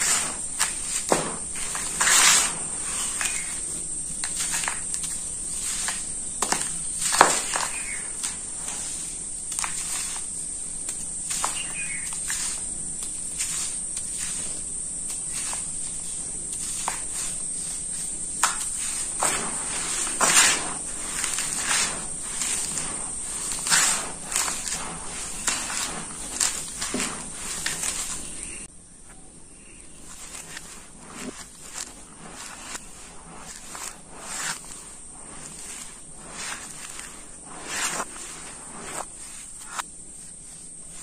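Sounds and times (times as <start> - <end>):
hands crumbling dry powder: 0.0 - 28.7, 30.0 - 41.0.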